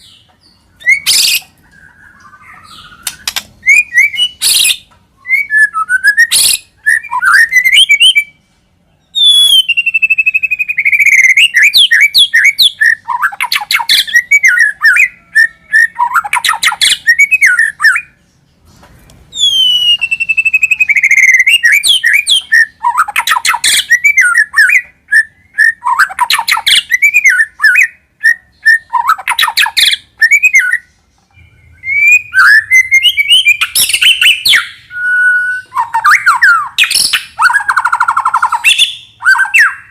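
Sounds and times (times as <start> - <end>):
songbird whistling and chattering: 0.0 - 8.4, 9.1 - 18.2, 19.3 - 39.9.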